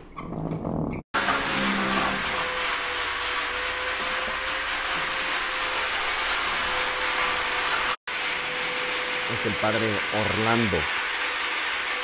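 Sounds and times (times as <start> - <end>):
angle grinder whining: 1.2 - 12.0.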